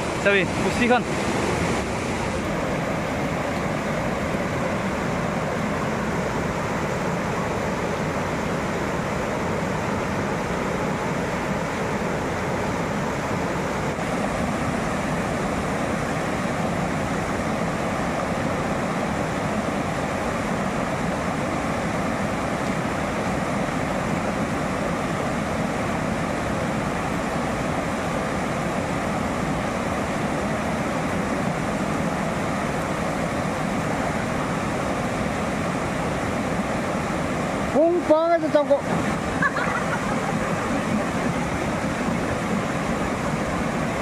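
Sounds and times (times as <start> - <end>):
river rushing over rocks: 0.0 - 44.0.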